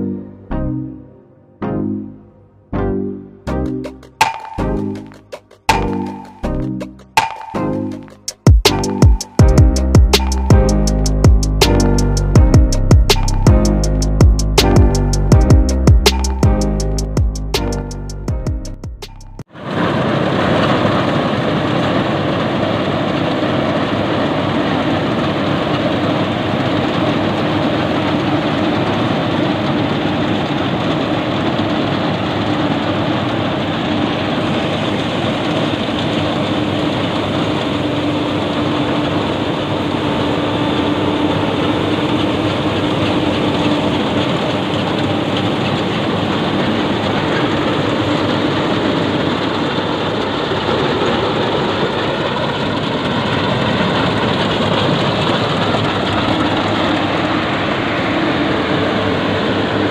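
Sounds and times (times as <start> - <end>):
combine harvester running: 3.6 - 59.9.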